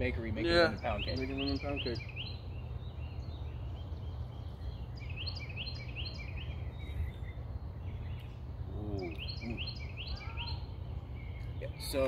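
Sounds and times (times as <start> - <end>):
low outdoor rumble: 0.0 - 12.0
songbird chirping: 0.0 - 12.0.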